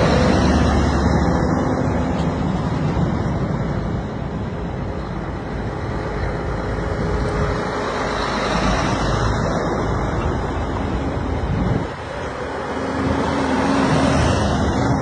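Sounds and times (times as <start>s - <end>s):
diesel truck engines rumbling: 0.0s - 15.0s.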